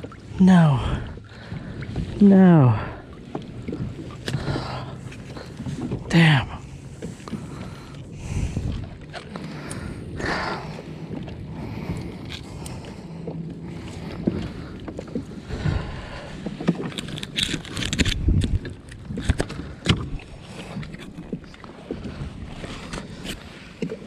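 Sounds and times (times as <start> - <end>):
water moving around kayak: 0.0 - 24.0
wind rumbling on microphone: 0.0 - 24.0.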